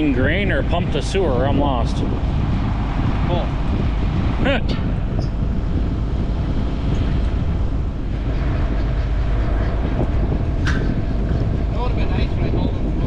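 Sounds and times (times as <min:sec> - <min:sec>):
engine rumbling: 0:00.0 - 0:13.0
wind buffeting microphone: 0:00.0 - 0:13.0.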